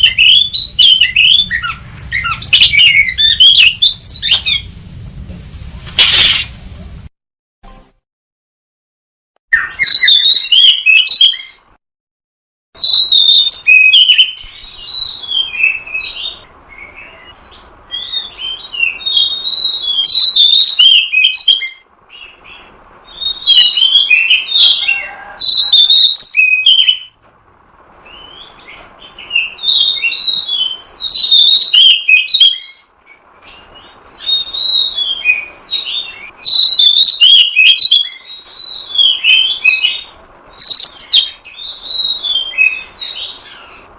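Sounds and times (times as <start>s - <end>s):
bird whistling and chattering: 0.0s - 4.7s, 9.5s - 11.6s, 12.8s - 27.1s, 28.1s - 32.8s, 33.5s - 43.9s.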